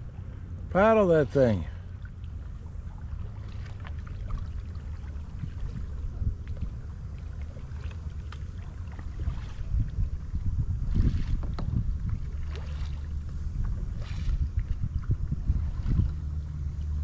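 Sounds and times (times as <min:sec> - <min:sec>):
paddles splashing in water: 0:00.0 - 0:17.0
wind buffeting microphone: 0:00.0 - 0:17.0.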